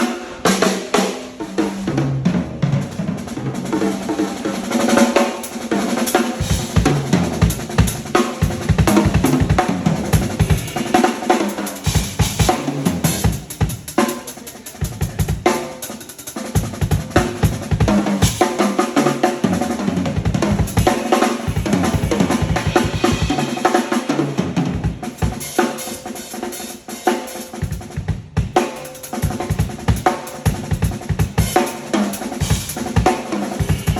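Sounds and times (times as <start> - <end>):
drum kit playing: 0.0 - 33.9.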